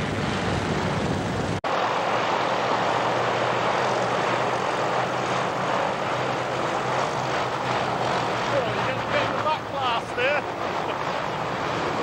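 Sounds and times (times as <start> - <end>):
propeller plane engines droning: 0.0 - 12.0.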